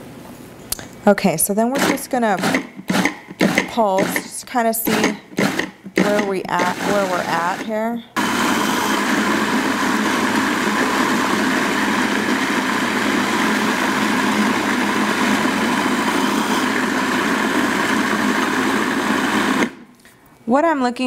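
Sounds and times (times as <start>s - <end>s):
food processor running: 1.7s - 19.9s.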